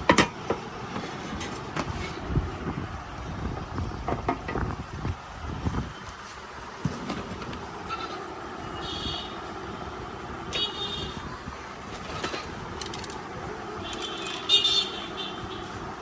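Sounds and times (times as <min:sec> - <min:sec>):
traffic background noise: 0:00.0 - 0:16.0.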